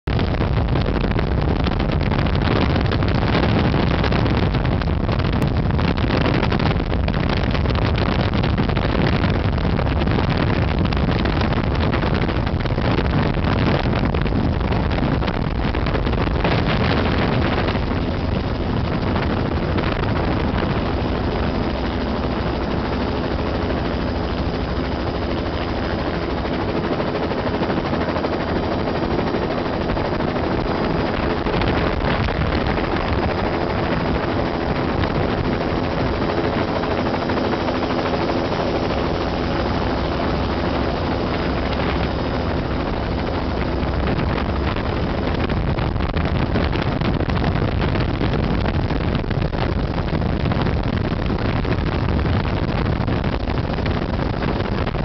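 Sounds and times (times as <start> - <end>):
helicopter rotor and engine din: 0.1 - 55.0
steady hums: 0.1 - 55.0.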